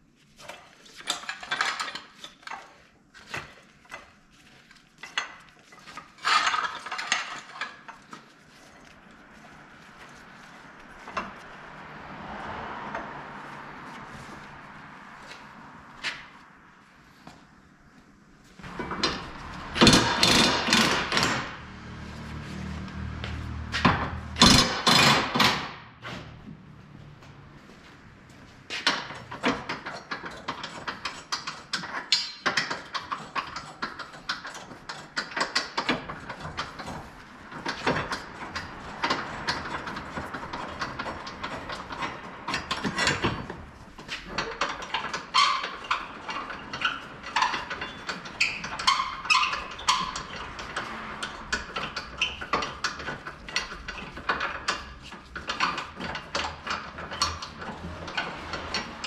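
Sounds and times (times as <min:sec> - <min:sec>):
hand tools and metal parts clinking: 0:00.4 - 0:11.6, 0:18.5 - 0:26.4, 0:27.6 - 0:59.0.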